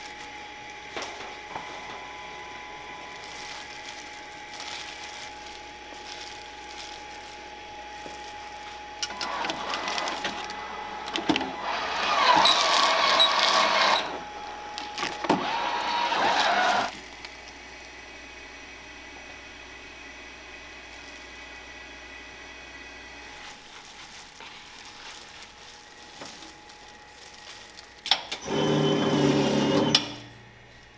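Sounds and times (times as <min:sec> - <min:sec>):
machine motor and belt whirring: 0:00.0 - 0:30.9.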